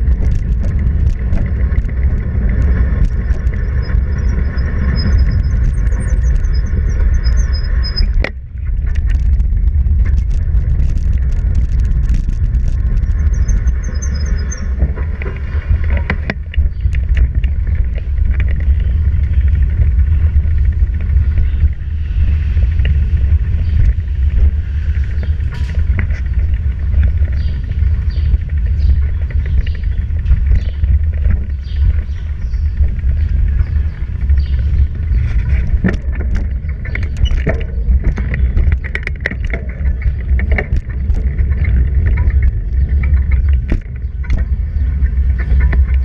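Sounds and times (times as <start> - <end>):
clicks and rattles: 0.0 - 21.8, 25.2 - 46.0
bicycle rolling over concrete: 0.0 - 46.0
wind on microphone: 0.0 - 46.0.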